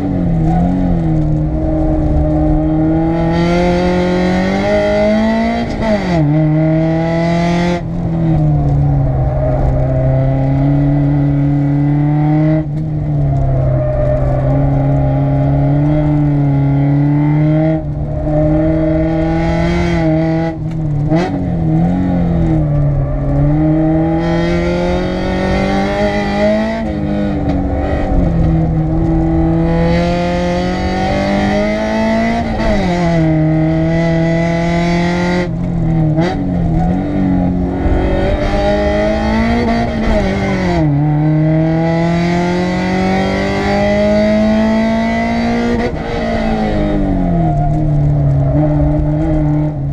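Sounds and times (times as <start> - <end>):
car engine under hard throttle: 0.0 - 49.9.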